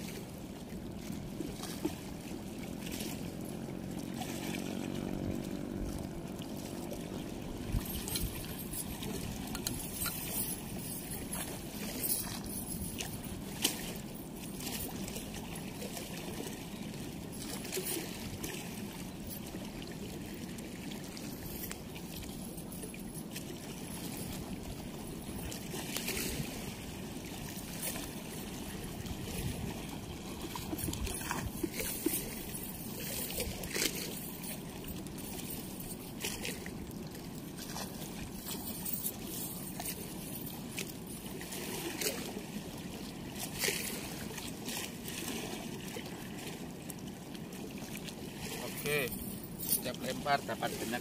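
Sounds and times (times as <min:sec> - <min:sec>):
water rushing through weir: 0:00.0 - 0:51.0
faint chain clinks: 0:04.6 - 0:42.4, 0:43.4 - 0:44.9, 0:48.4 - 0:51.0.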